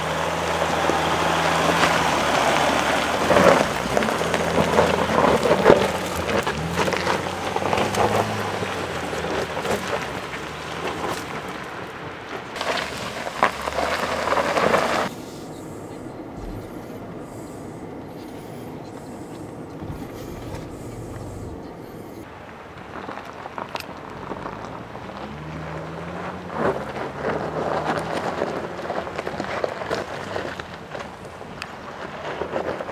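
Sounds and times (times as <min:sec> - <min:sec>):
cabin engine and road drone: 0:00.0 - 0:32.9
car engine running low: 0:00.0 - 0:32.9
tyres crunching on gravel: 0:00.0 - 0:32.9.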